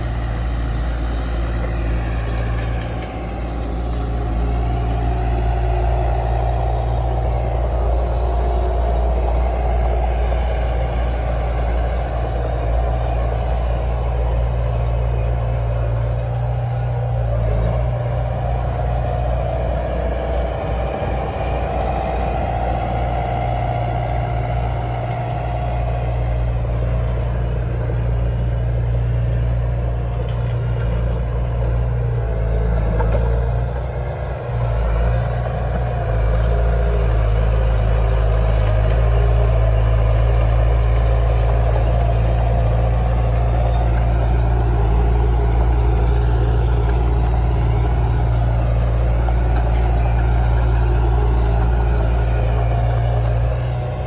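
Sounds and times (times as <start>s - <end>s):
diesel machinery engine hum: 0.0s - 54.0s.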